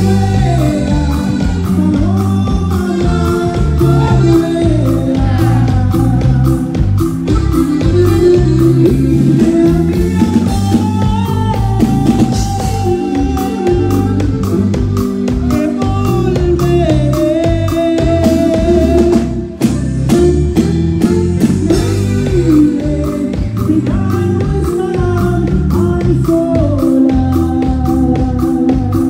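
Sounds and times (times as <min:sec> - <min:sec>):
saxophones: 0:00.0 - 0:23.3
man singing: 0:00.0 - 0:29.0
steady drum beat: 0:00.0 - 0:29.0.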